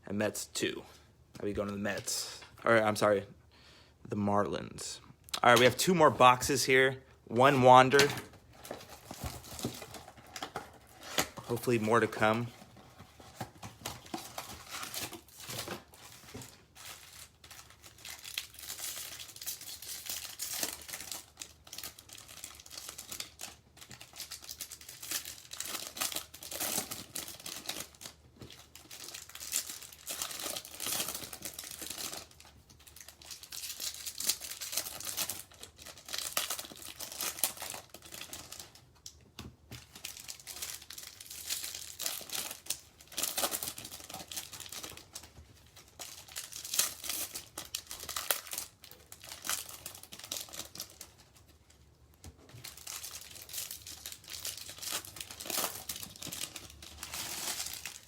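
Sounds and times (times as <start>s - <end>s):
plastic wrapping crinkling and tearing: 7.5s - 58.0s.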